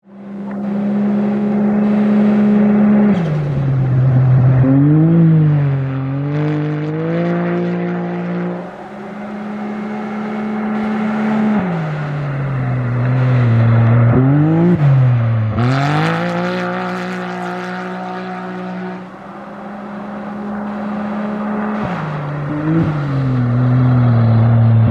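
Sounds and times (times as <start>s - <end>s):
race vehicle engines revving: 0.1s - 24.9s.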